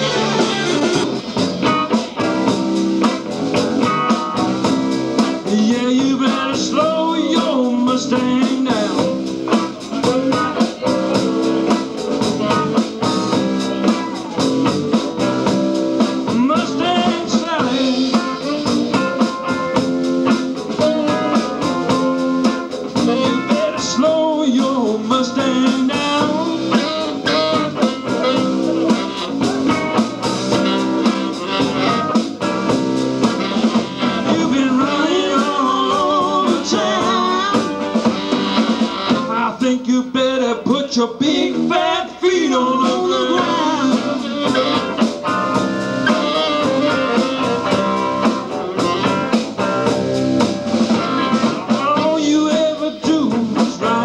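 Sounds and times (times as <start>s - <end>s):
drum kit: 0.0s - 54.0s
guitar: 0.0s - 54.0s
person singing: 5.2s - 15.3s, 16.0s - 32.2s, 33.6s - 49.3s, 51.0s - 54.0s.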